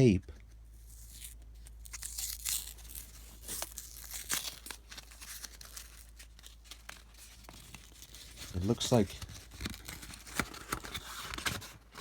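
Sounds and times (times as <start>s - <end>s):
paper crinkling: 0.8s - 12.0s
tape peeling and tearing: 0.8s - 12.0s.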